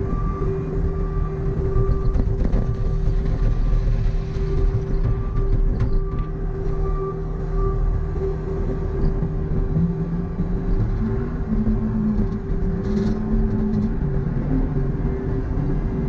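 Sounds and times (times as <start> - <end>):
constant whine: 0.0 - 16.0
diesel engine running: 0.0 - 16.0
low tone shifting in pitch: 0.0 - 16.0.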